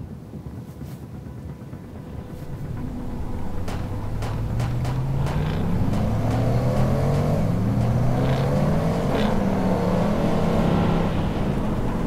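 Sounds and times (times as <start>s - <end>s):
truck engine revving: 1.8s - 12.0s
drone motors whining: 1.9s - 12.0s.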